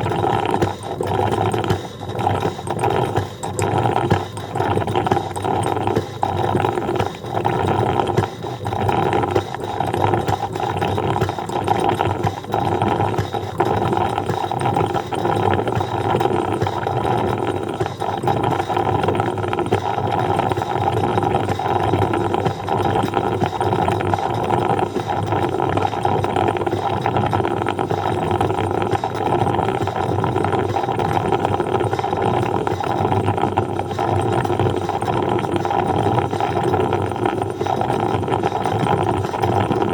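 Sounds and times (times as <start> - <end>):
coffee percolator popping: 0.0 - 39.9.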